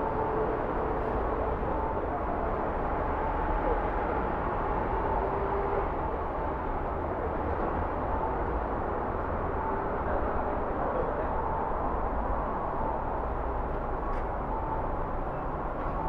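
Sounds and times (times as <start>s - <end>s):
city road traffic rumble: 0.0s - 16.0s.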